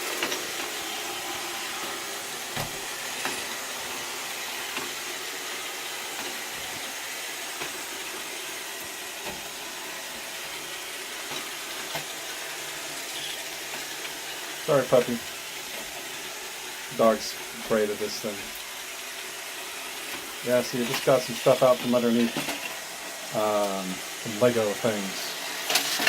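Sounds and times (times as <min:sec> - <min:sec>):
robot vacuum whirring: 0:00.0 - 0:26.0.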